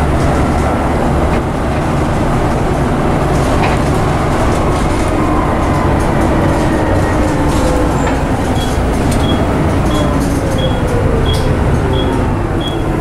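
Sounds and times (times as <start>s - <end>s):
bus engine and drivetrain: 0.0s - 13.0s.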